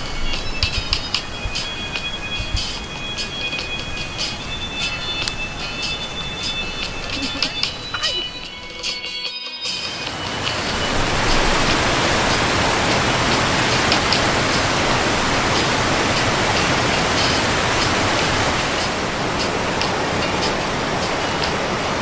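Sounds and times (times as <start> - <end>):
water rushing down a cascade: 0.0 - 8.5, 9.8 - 22.0.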